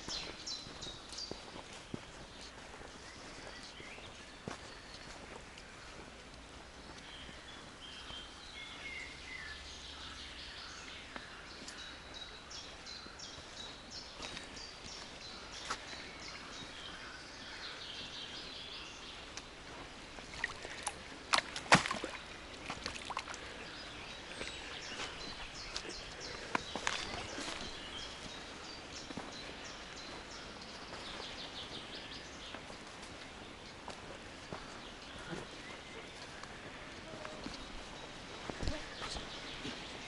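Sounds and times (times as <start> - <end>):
footsteps on forest floor: 0.0 - 40.0
songbirds chirping: 0.0 - 40.0.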